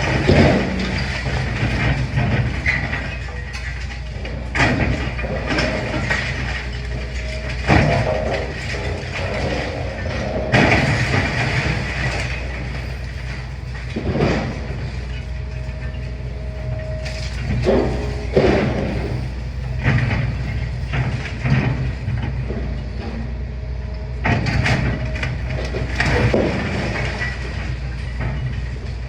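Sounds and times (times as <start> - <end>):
rubble crashing and scraping: 0.0 - 22.6, 24.3 - 29.0
excavator diesel engine running: 0.0 - 29.0.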